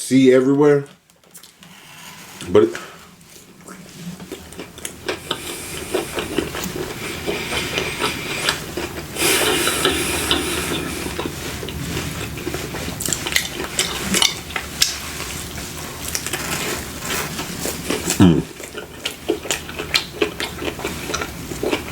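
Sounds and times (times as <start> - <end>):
chewing and crunching fried food: 2.7 - 21.9.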